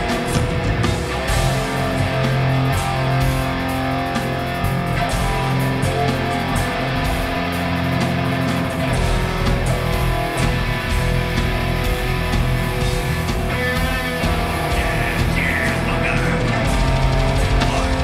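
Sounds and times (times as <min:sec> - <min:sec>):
distorted electric guitar: 0:00.0 - 0:18.0
drum kit with cymbals: 0:00.0 - 0:18.0.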